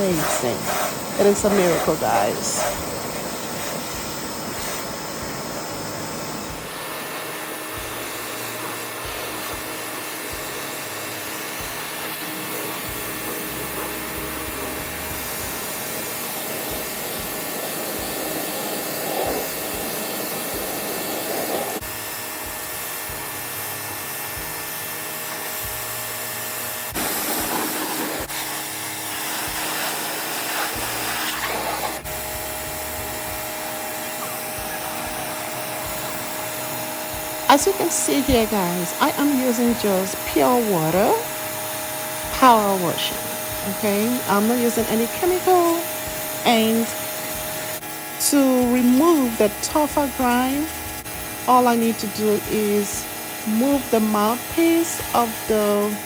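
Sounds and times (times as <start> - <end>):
pressure washer motor whine: 0.0 - 56.0
water jet spraying stonework: 0.0 - 56.0.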